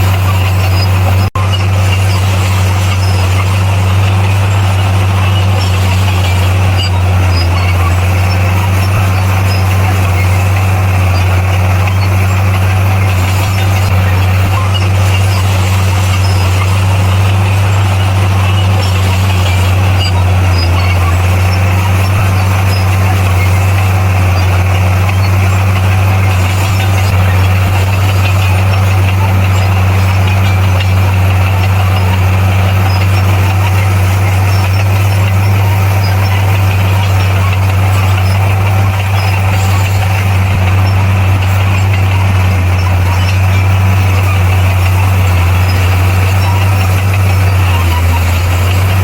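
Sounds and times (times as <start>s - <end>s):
bulldozer diesel engine running: 0.0s - 49.0s.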